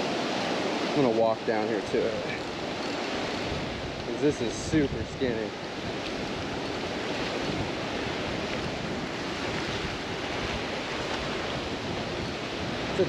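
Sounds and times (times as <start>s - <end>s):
small waves breaking on sand: 0.0s - 13.0s
wind buffeting microphone: 0.0s - 13.0s.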